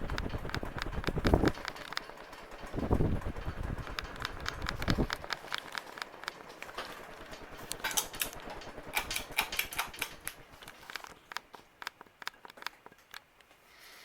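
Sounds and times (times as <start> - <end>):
fan clicking and knocking: 0.0 - 13.6
ceiling fan running: 0.0 - 14.0.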